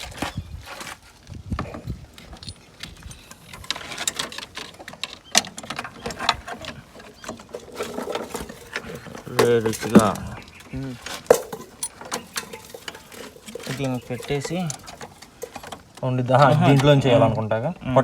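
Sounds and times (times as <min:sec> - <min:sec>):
hand tools clicking and tapping: 0:01.6 - 0:17.0
metal parts being handled: 0:02.2 - 0:17.0.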